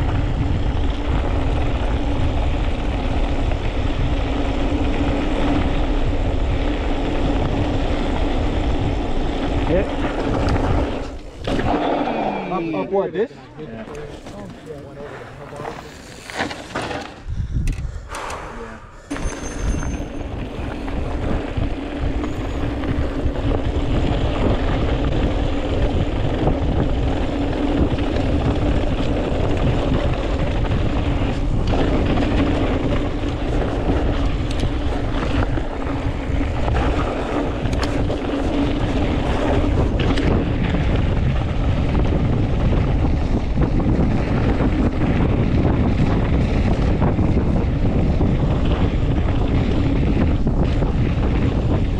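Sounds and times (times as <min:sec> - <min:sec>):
tyres rolling over dirt trail: 0:00.0 - 0:18.2, 0:19.0 - 0:51.9
wind rushing over microphone: 0:00.0 - 0:51.9.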